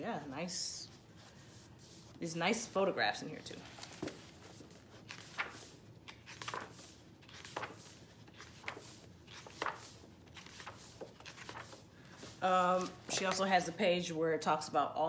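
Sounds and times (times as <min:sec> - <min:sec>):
book pages rustling: 0:00.8 - 0:13.6.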